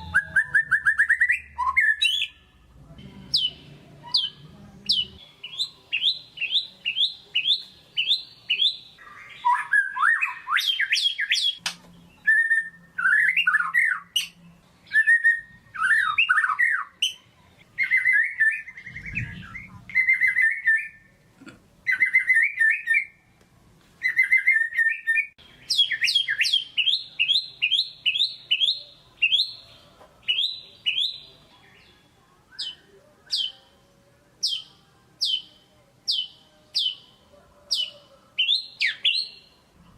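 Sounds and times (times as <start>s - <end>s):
bird singing varied whistled song: 0.0s - 2.4s, 3.3s - 17.2s, 17.8s - 21.1s, 21.9s - 23.2s, 24.0s - 29.6s, 30.2s - 31.9s, 32.5s - 33.7s, 34.4s - 39.6s.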